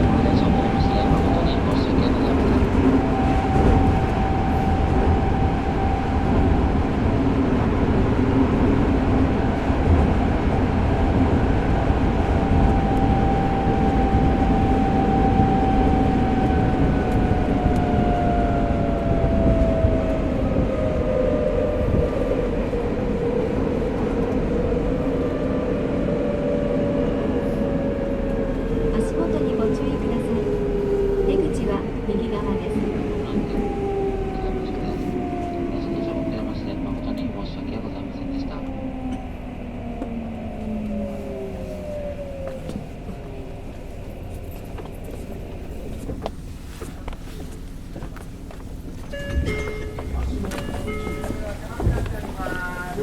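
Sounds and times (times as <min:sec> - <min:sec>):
subway train wheels rumbling: 0:00.0 - 0:53.0.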